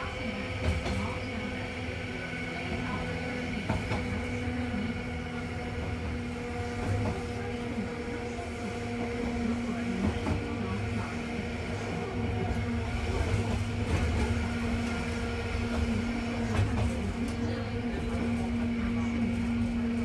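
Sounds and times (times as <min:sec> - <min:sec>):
wheels clacking on rails: 0:00.0 - 0:01.9, 0:02.6 - 0:20.0
tram hum and rumble: 0:00.0 - 0:20.0.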